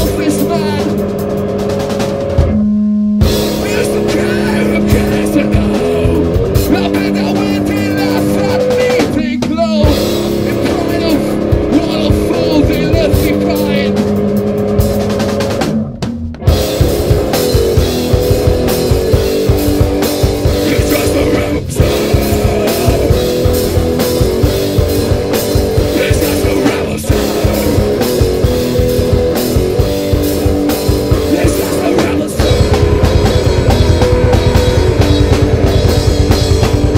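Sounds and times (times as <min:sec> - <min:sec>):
bass guitar: 0:00.0 - 0:36.9
drum kit: 0:00.0 - 0:36.9
electric guitar: 0:00.0 - 0:36.9.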